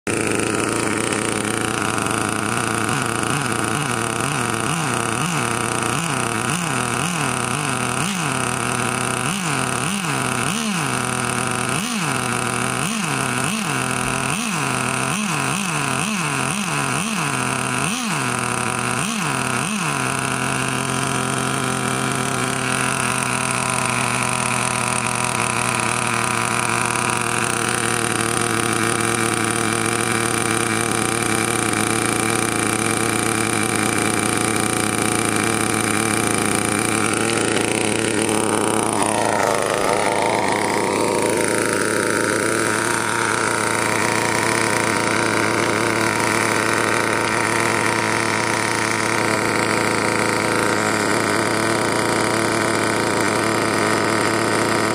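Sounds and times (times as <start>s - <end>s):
nitro engine revving and idling: 0.0s - 54.9s.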